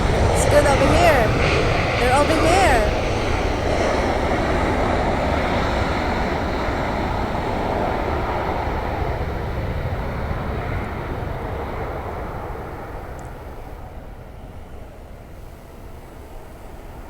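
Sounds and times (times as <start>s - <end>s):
jet airliner engine rushing: 0.0s - 17.0s.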